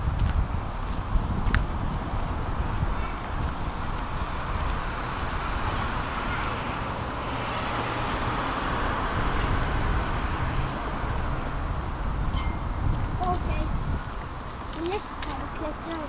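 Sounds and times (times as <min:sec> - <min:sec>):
vehicle rolling rumble and hiss: 0:00.0 - 0:16.0.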